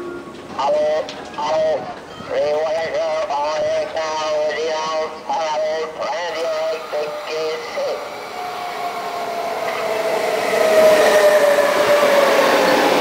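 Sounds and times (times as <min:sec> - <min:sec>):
electric locomotive whine: 0:00.0 - 0:13.0.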